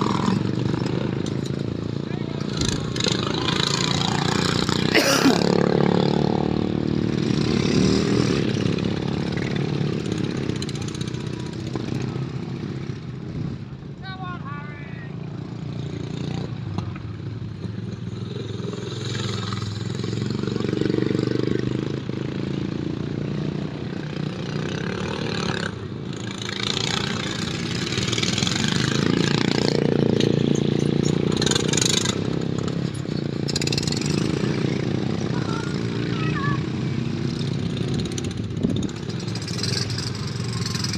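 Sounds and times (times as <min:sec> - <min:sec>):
lawnmower engines racing: 0:00.0 - 0:40.9.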